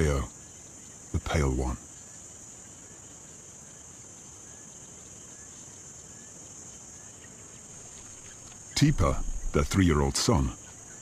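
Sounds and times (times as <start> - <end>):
insect chorus shrill drone: 0.0 - 11.0.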